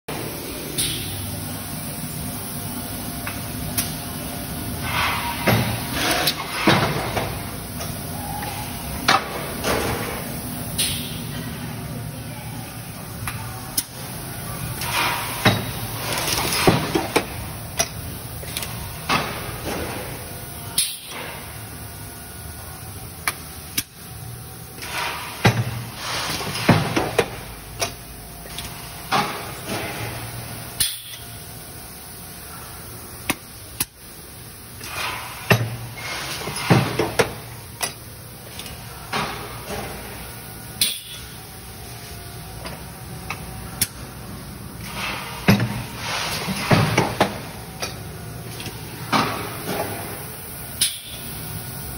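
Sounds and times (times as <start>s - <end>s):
industrial machinery humming: 0.1s - 51.9s.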